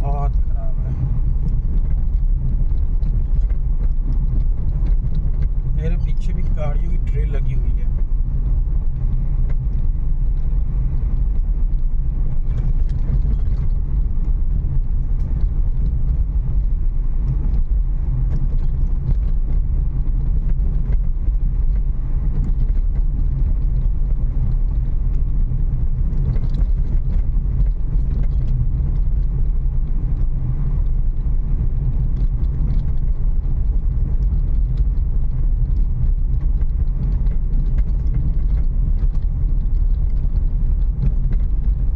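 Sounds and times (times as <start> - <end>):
car driving on rough road: 0.0 - 41.9.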